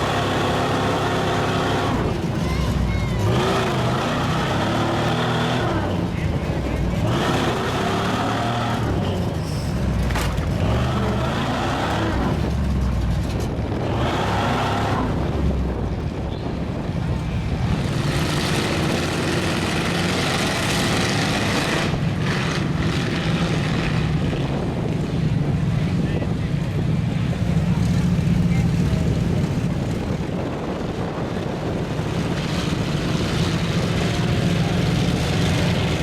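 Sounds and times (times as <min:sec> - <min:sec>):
truck engines revving: 0:00.0 - 0:36.0.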